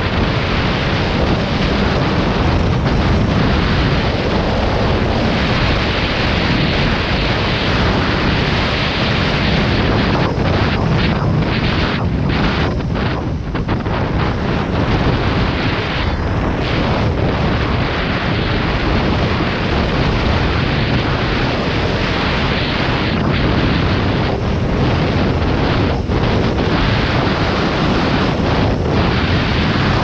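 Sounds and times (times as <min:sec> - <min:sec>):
heavy wind noise on microphone: 0:00.0 - 0:30.0.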